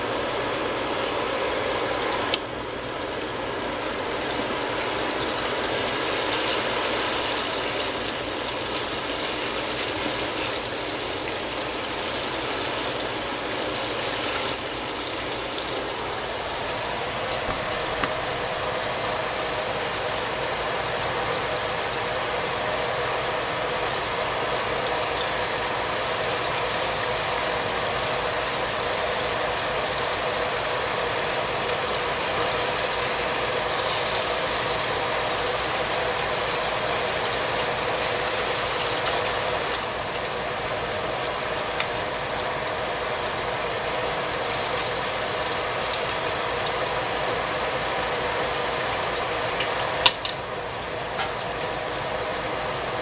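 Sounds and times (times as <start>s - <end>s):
oil sizzling and bubbling: 0.0s - 53.0s.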